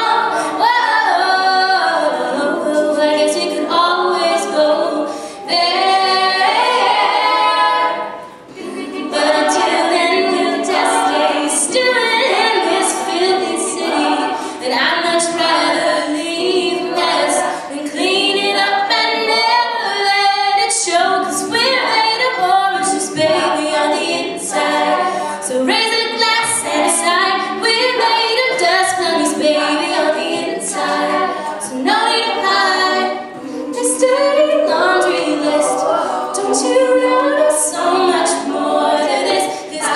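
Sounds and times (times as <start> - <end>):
women singing backing vocals: 0.0 - 39.9.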